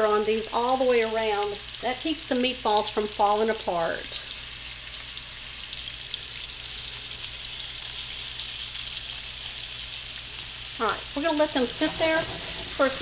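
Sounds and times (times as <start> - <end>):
meatballs sizzling in skillet: 0.0 - 13.0.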